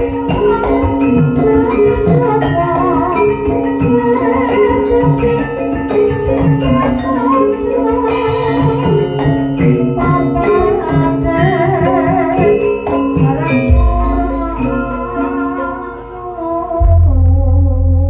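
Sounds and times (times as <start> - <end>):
gamelan music: 0.0 - 18.0.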